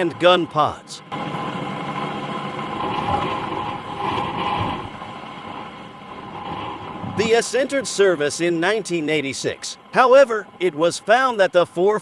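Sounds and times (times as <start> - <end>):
helicopter engine and rotor noise: 0.0 - 12.0
helicopter whine: 0.0 - 12.0.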